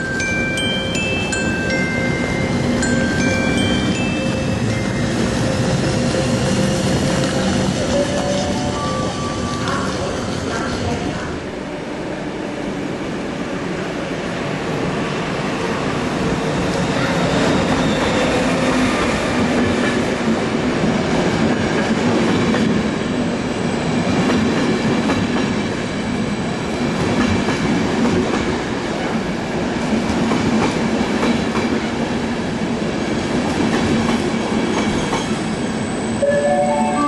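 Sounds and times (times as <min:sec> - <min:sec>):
train wheels rumbling on rails: 0:00.0 - 0:11.6, 0:13.8 - 0:36.2.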